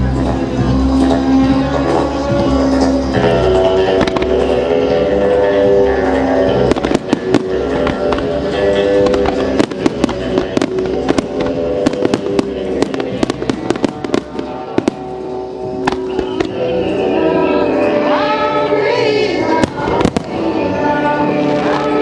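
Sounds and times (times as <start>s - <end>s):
fireworks bangs and crackles: 0.0s - 16.8s, 19.5s - 22.0s
music over loudspeakers: 0.0s - 22.0s.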